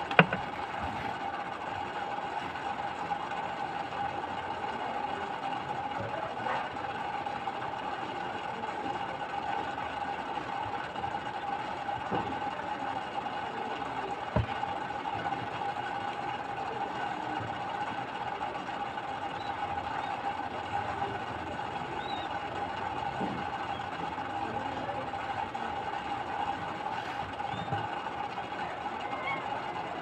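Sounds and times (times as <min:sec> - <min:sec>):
mechanical hum with whine: 0:00.0 - 0:30.0.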